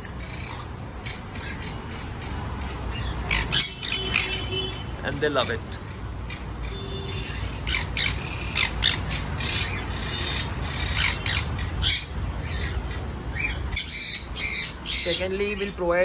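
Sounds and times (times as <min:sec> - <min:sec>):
parrots squawking: 0:00.0 - 0:05.0, 0:05.7 - 0:15.8.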